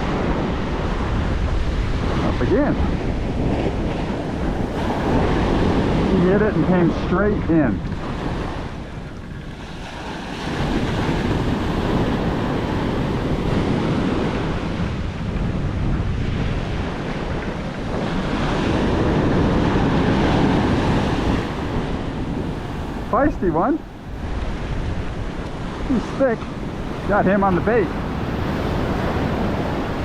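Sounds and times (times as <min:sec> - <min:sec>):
surf washing up a beach: 0:00.0 - 0:30.0
wind rumbling on microphone: 0:00.0 - 0:30.0.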